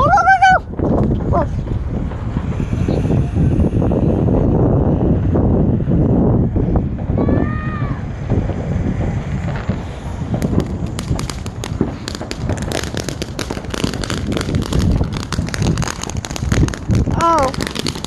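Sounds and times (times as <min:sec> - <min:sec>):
firework fountain hissing and crackling: 0:00.0 - 0:18.0.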